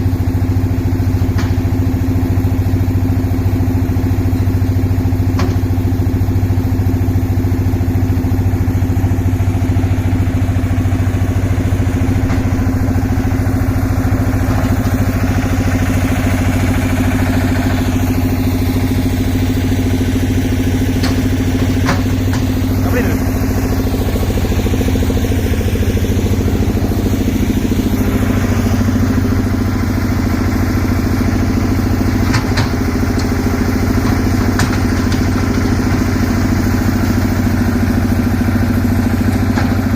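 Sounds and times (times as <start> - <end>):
concrete mixer engine humming: 0.0 - 39.9.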